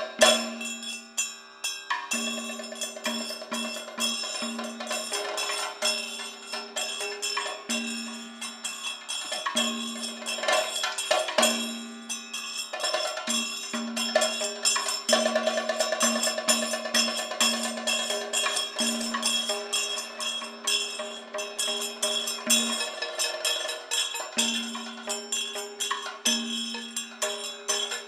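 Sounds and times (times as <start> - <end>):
sharp percussion strokes: 0.0 - 28.0.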